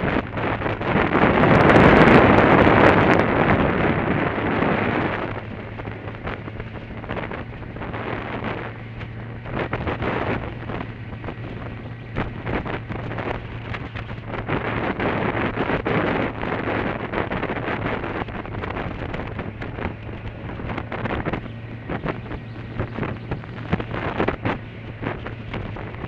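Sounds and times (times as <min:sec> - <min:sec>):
motorcycle engine humming: 0:00.0 - 0:26.0
wind buffeting microphone: 0:00.0 - 0:26.0
short crackles: 0:02.8 - 0:26.0.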